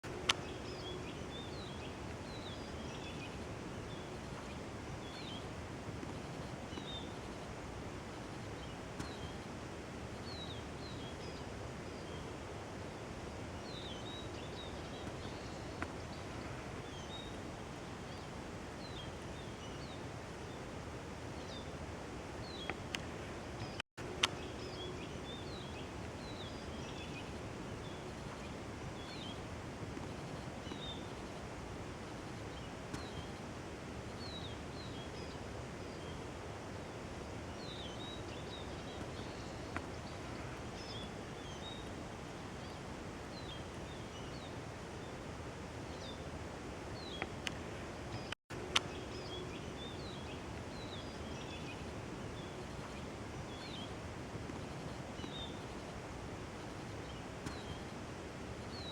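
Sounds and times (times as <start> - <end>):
forest background hiss: 0.0 - 58.9
songbirds calling: 0.0 - 58.9.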